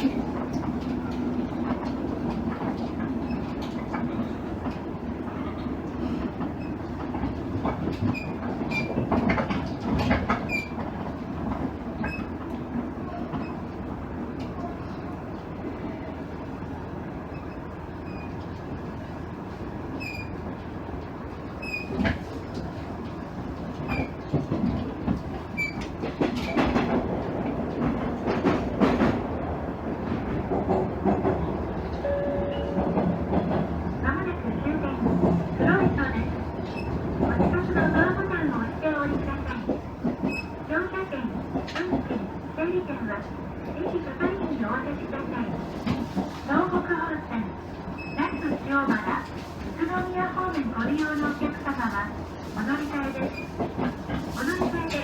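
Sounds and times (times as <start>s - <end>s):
railcar rumble: 0.0s - 55.0s.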